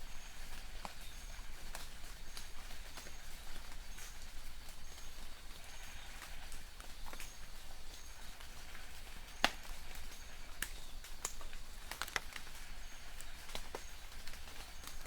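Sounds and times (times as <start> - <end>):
light rain pattering: 0.0 - 15.0
drips tapping on leaves: 0.4 - 15.0.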